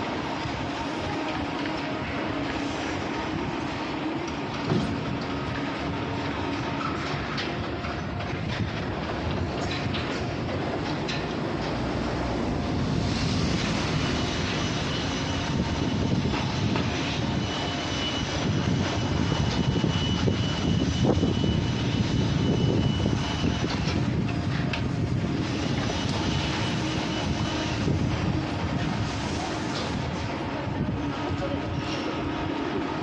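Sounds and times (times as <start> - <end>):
heavy machinery rumble: 0.0 - 33.0.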